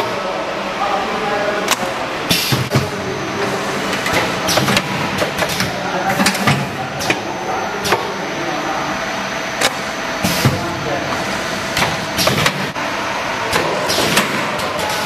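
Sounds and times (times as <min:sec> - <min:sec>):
packing machine humming: 0:00.0 - 0:15.0.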